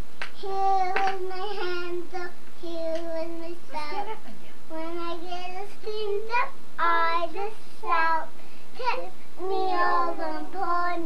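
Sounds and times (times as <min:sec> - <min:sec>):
child singing: 0:00.4 - 0:04.1, 0:04.7 - 0:11.0.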